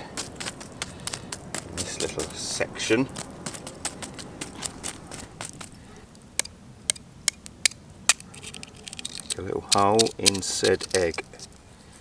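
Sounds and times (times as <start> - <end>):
campfire embers crackling: 0.0 - 12.0.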